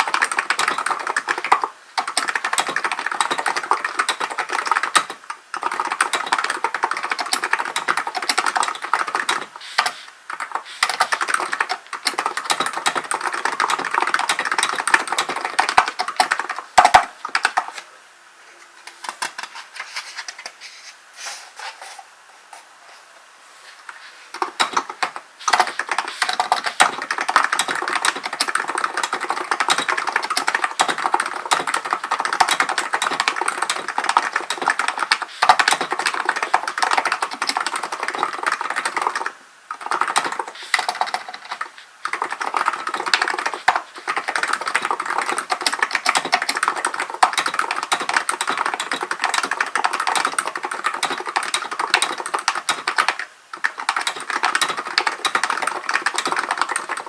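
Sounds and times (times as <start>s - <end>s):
typing on keyboard: 0.0s - 17.8s, 24.4s - 57.0s.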